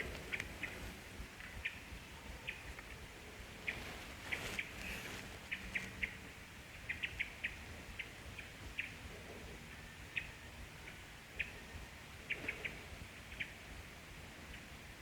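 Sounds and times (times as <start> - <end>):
small birds chirping: 0.0 - 13.7.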